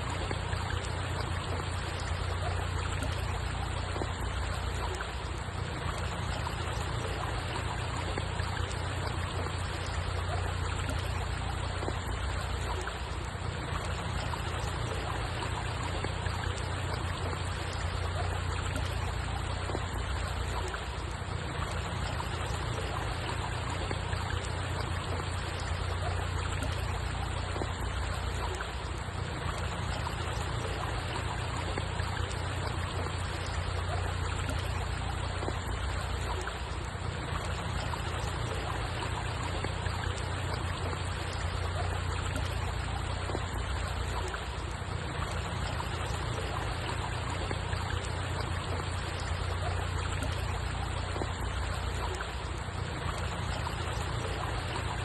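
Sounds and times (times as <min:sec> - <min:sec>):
rush of flowing water: 0:00.0 - 0:55.0.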